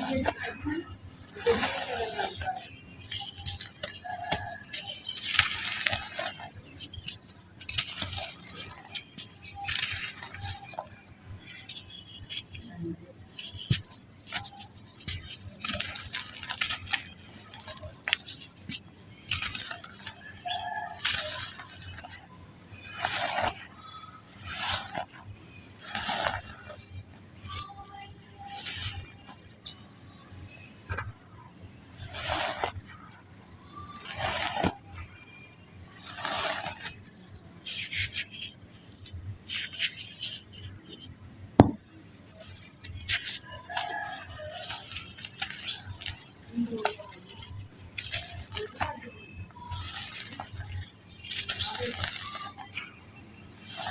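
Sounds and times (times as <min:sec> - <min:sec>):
sand balls crunching: 0:00.0 - 0:29.8, 0:31.9 - 0:35.2, 0:35.9 - 0:53.9.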